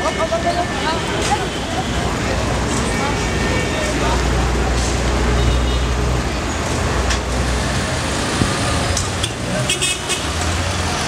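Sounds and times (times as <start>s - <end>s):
rumble of motor vehicles: 0.0s - 11.0s.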